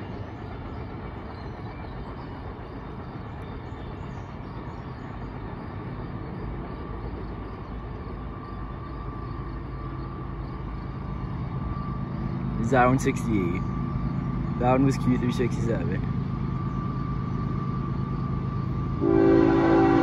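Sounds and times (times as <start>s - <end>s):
diesel locomotive rumble: 0.0s - 20.0s.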